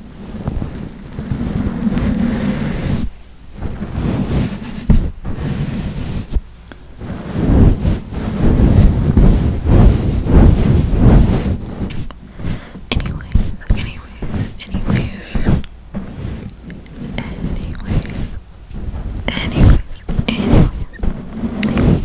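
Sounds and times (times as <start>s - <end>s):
brush swishing over microphone: 0.0s - 22.0s.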